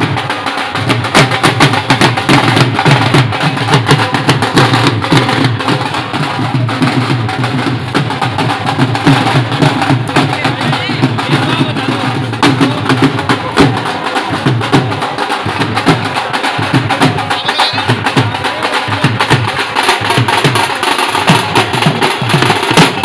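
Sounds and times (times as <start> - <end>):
dhol drums in fast rhythm: 0.0 - 23.0
side drums played with sticks: 0.0 - 23.0.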